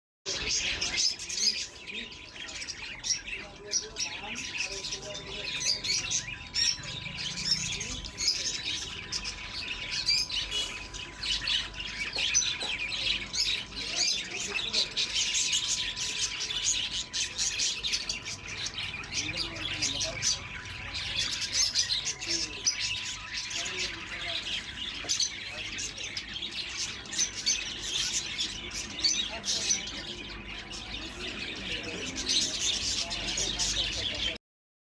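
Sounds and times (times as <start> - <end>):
many small birds chirping: 0.3 - 34.4.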